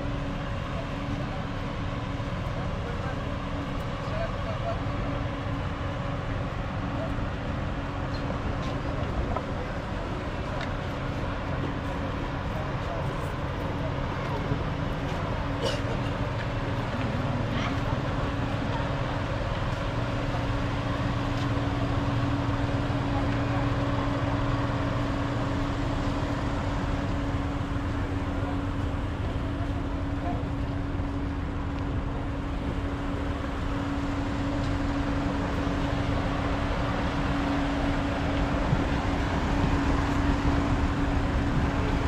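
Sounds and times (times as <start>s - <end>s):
ferry engine drone: 0.0s - 42.0s.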